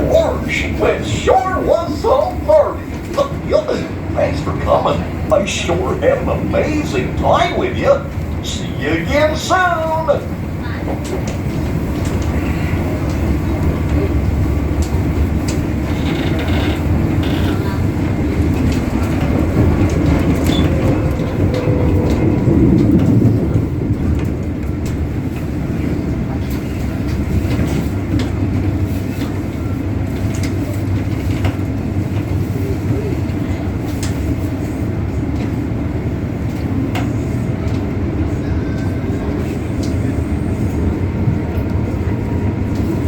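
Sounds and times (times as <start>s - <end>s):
train running noise: 0.0s - 43.0s
wheels clicking on track: 0.0s - 43.0s.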